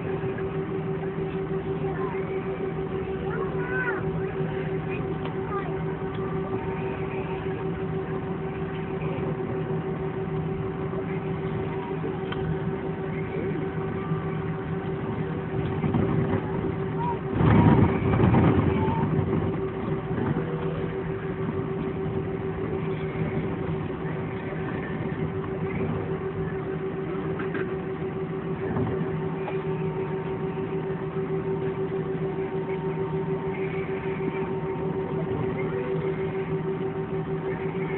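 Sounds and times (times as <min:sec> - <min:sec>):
jet engines humming in cabin: 0:00.0 - 0:37.9
rough rumble: 0:00.0 - 0:37.9.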